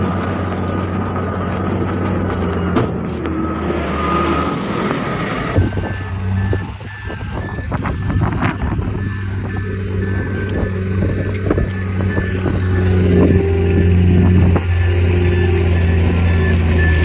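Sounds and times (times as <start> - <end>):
heavy diesel engines running: 0.0 - 17.0
reversing alarm beeping: 0.0 - 17.0.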